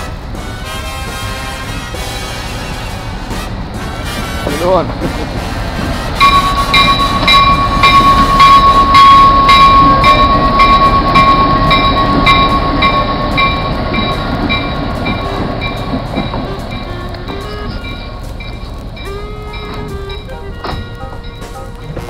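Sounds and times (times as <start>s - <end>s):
train rumble: 0.0s - 22.0s
locomotive bell ringing: 3.8s - 22.0s.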